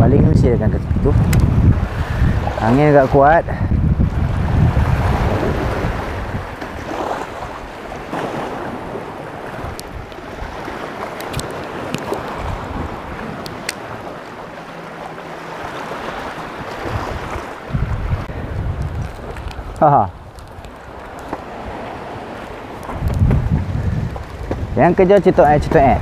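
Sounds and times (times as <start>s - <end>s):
wind buffeting microphone: 0.0s - 26.0s
sea water washing against rocks: 0.8s - 26.0s.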